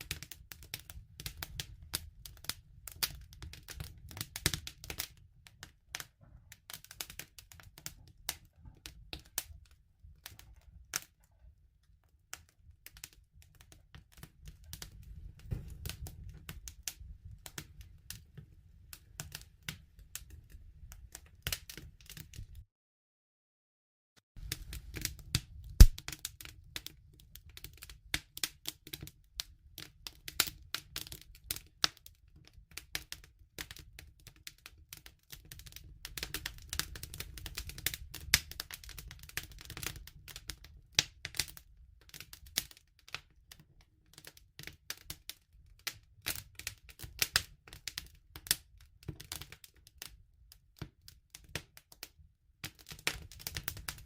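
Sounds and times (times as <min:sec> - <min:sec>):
campfire crackling and popping: 0:00.0 - 0:11.3, 0:12.3 - 0:22.6, 0:24.4 - 0:43.4, 0:44.1 - 0:50.2, 0:52.6 - 0:54.0.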